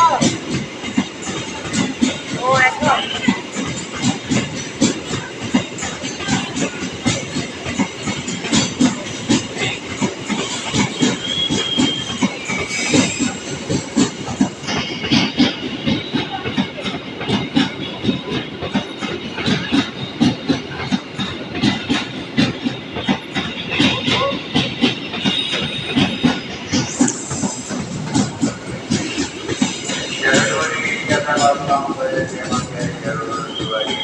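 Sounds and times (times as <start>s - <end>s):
train wheels clattering: 0.0s - 34.0s.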